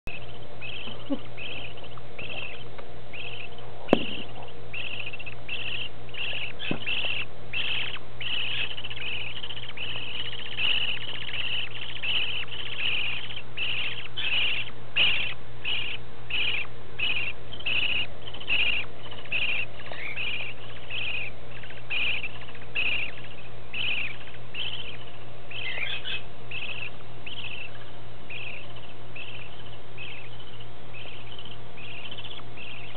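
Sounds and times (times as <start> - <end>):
bird chicks peeping: 0.0 - 32.9
low steady hum: 0.0 - 32.9.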